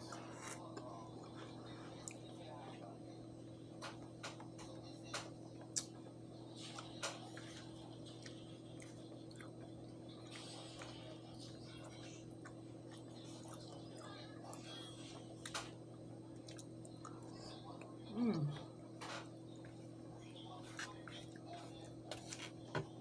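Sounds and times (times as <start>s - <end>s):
soft chewing: 0.0s - 22.7s
faint low hum: 0.0s - 23.0s.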